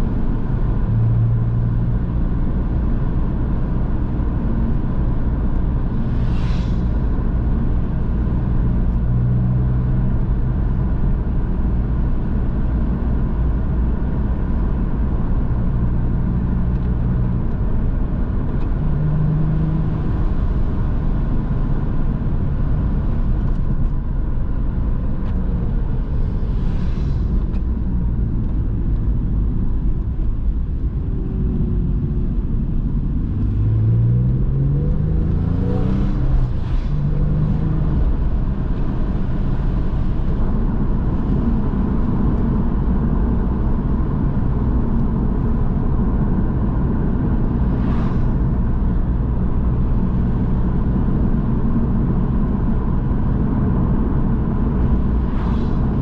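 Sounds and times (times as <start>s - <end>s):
tyre and road noise: 0.0s - 56.0s.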